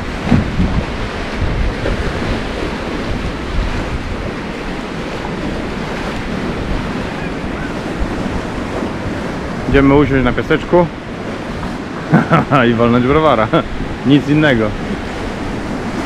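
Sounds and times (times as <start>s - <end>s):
sea surf washing onto beach: 0.0s - 16.0s
wind buffeting microphone: 0.0s - 16.0s.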